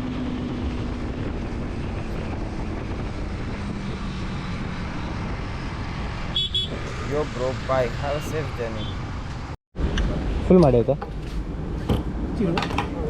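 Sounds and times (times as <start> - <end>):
wind rush on microphone: 0.0 - 10.5.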